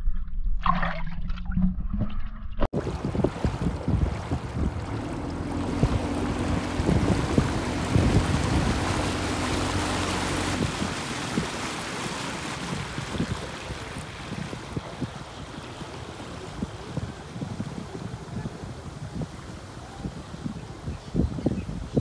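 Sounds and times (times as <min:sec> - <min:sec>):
water rushing along hull: 0:02.7 - 0:22.0
outboard motor humming: 0:02.8 - 0:20.5
wind on microphone: 0:02.8 - 0:22.0.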